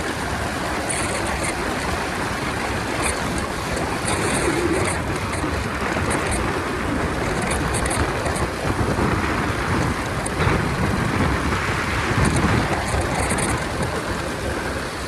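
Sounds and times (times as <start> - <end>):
motorcycle road and engine noise: 0.0 - 15.0
wind rushing over microphone: 0.0 - 15.0.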